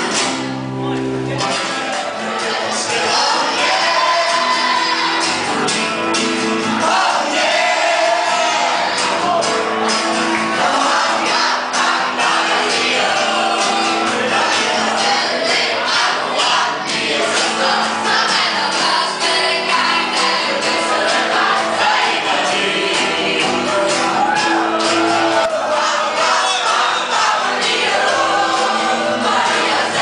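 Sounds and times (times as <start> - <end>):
live band music: 0.0 - 30.0
crowd singing along: 1.3 - 30.0.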